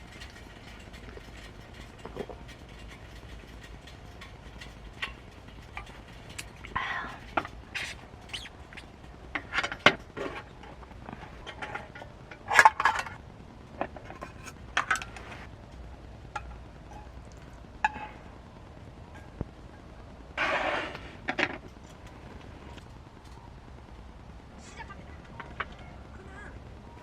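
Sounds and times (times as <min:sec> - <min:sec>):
camp gear and cookware clinking: 0:00.0 - 0:23.7.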